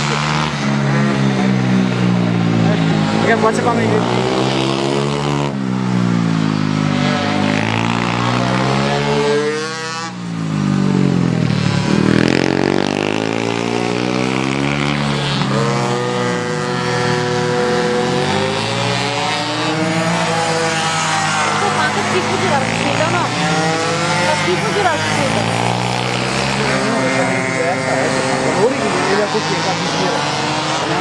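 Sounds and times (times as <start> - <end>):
motorbike engine revving: 0.0 - 31.0.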